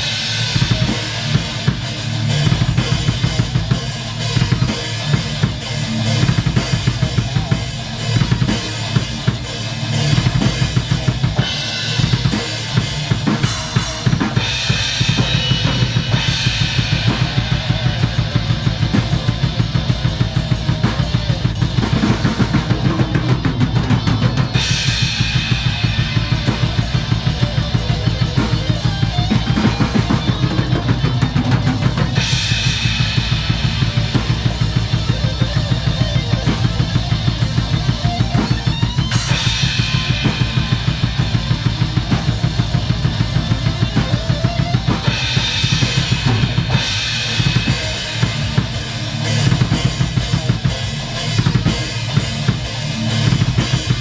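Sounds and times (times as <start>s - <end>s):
crashing cymbals: 0.0s - 31.0s, 31.7s - 54.0s
bass drum and snare: 0.0s - 54.0s.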